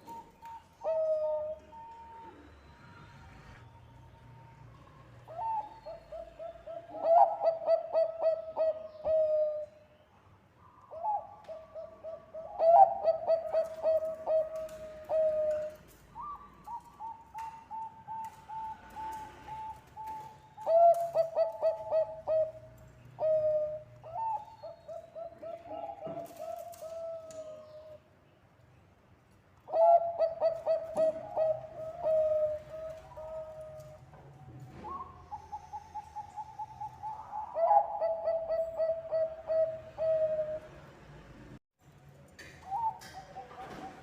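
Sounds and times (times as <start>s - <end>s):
dove cooing: 0.0s - 3.6s, 5.3s - 9.7s, 10.9s - 28.0s, 29.7s - 34.1s, 34.7s - 40.8s, 42.7s - 44.0s.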